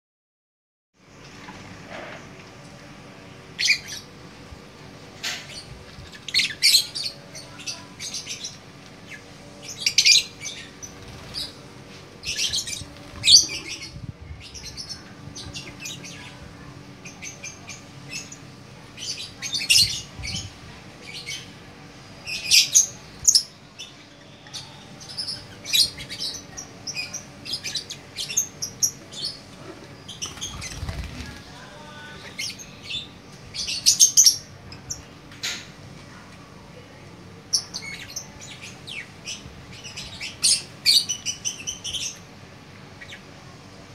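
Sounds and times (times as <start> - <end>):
lovebirds chirping and chattering: 3.5 - 43.9.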